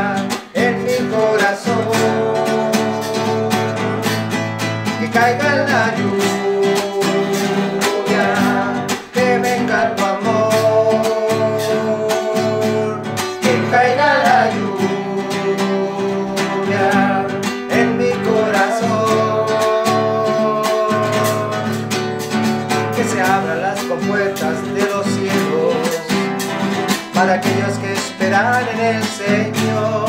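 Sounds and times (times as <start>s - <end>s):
man's voice: 0.0s - 21.8s, 22.8s - 30.0s
acoustic guitar strumming: 0.0s - 30.0s.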